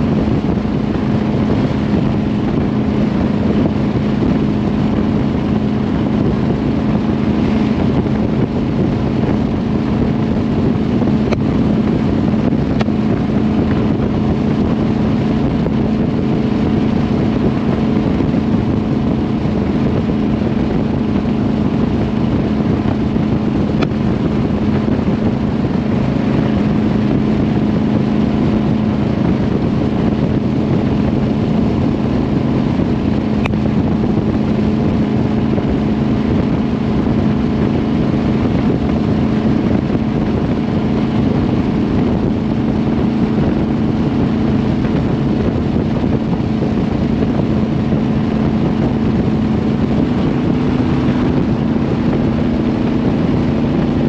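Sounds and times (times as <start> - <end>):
car engine running steadily: 0.0 - 54.0.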